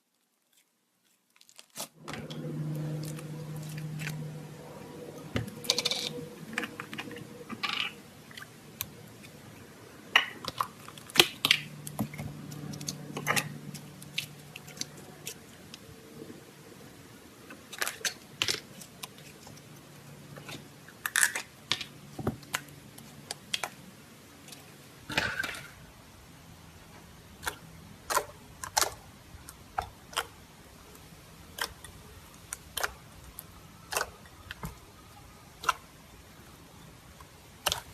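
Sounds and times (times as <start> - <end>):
faint low hum: 2.0 - 37.9.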